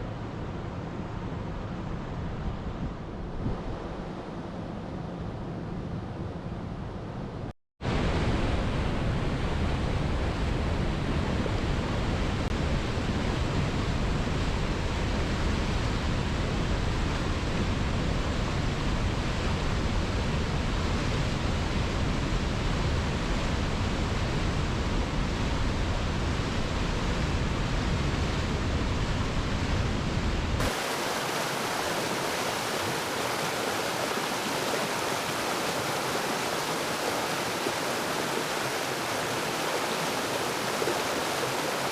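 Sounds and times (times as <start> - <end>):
rushing water roar: 7.9 - 41.9.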